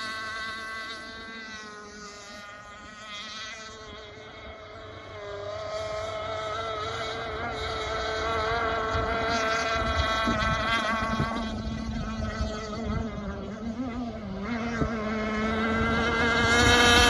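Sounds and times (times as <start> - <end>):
rc boat engine high-pitched drone: 0.0 - 17.0.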